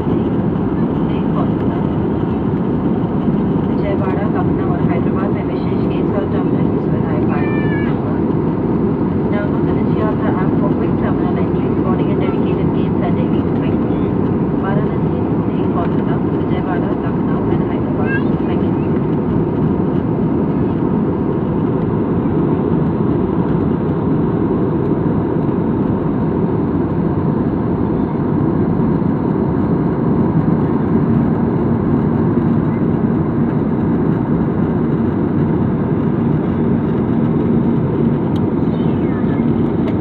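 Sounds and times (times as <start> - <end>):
aircraft cabin engine rumble: 0.0 - 40.0.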